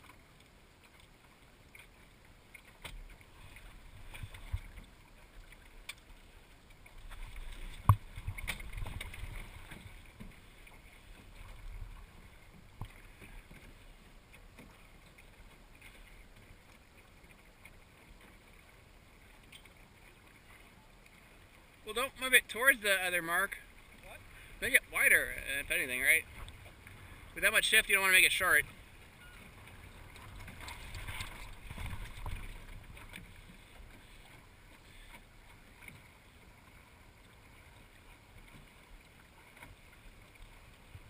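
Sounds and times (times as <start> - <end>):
water swishing along hull: 0.0 - 41.0.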